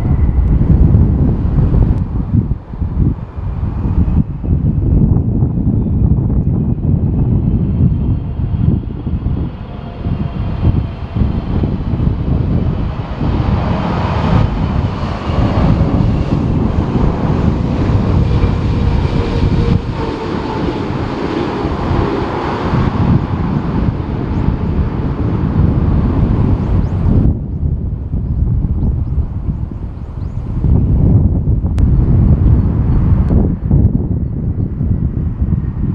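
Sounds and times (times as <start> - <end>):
jet engines passing: 0.0 - 35.9
wind buffeting microphone: 0.0 - 35.9.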